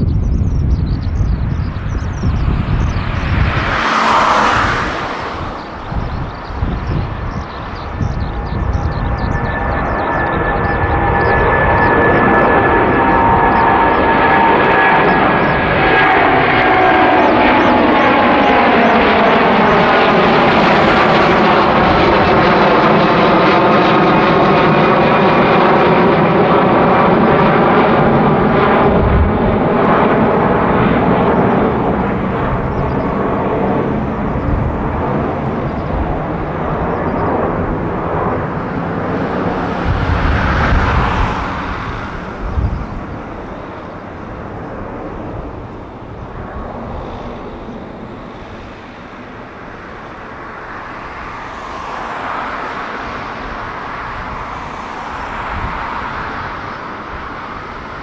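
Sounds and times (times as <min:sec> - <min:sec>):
jet roar passing overhead: 0:00.0 - 0:58.0.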